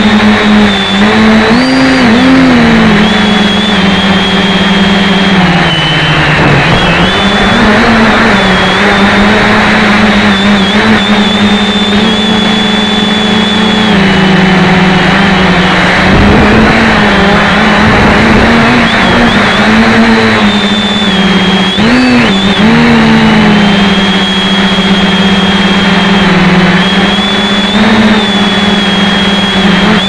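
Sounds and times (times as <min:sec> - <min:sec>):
quadcopter propellers whining: 0:00.0 - 0:30.0.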